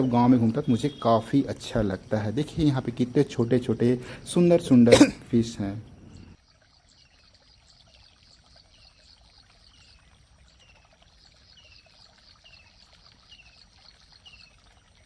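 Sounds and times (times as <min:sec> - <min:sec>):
faint water trickle: 0:00.0 - 0:15.0.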